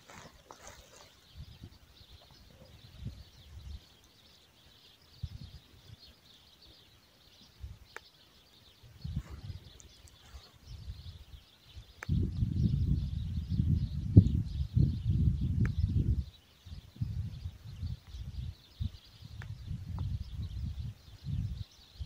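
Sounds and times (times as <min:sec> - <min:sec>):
wind buffeting microphone: 0:00.0 - 0:03.9, 0:05.1 - 0:06.1, 0:08.7 - 0:22.0.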